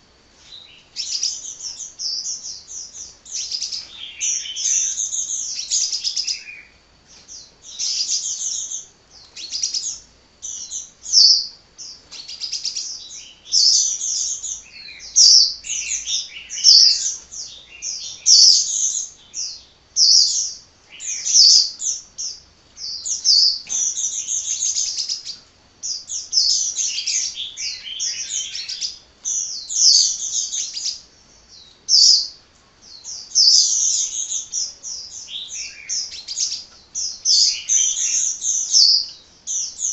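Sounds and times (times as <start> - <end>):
sunbird twittering song: 0.0 - 39.9.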